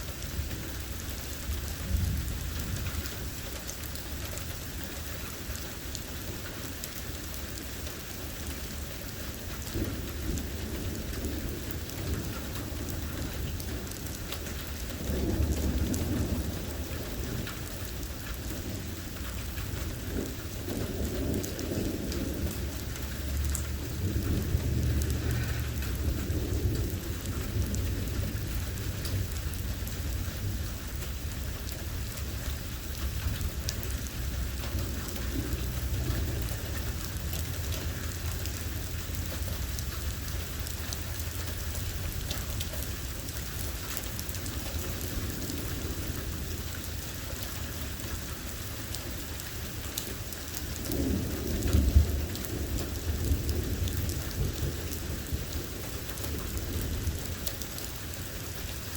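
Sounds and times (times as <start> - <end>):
thunder rumbling: 0.0 - 3.4, 9.3 - 58.7
rain falling: 0.0 - 58.9.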